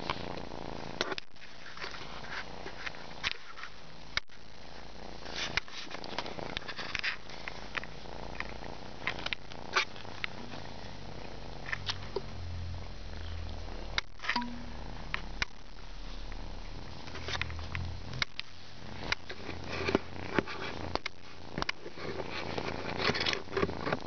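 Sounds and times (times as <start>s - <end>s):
kitten purring: 0.0s - 24.0s.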